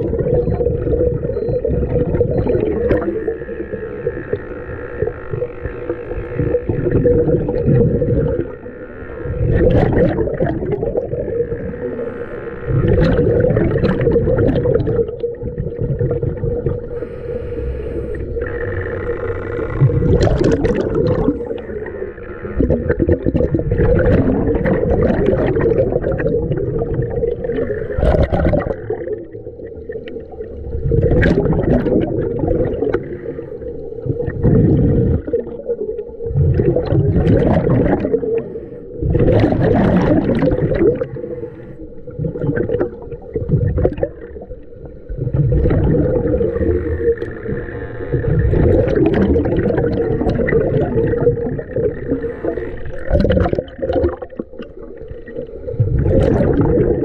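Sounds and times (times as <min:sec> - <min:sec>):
gurgling exhaled bubbles: 0:00.0 - 0:57.0
steady hum: 0:00.0 - 0:57.0
scuba diver breathing underwater: 0:09.3 - 0:57.0.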